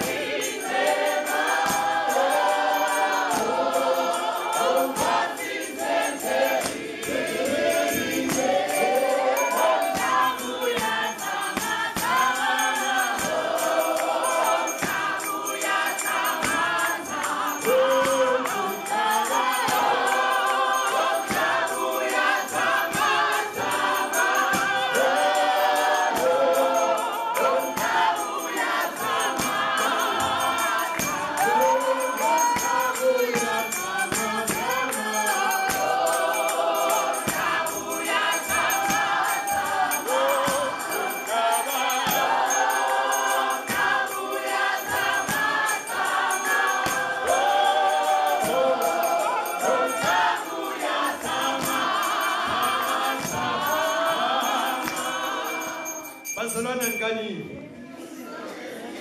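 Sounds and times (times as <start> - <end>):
hand-clapping: 0.0 - 56.1
congregation singing: 0.0 - 59.0.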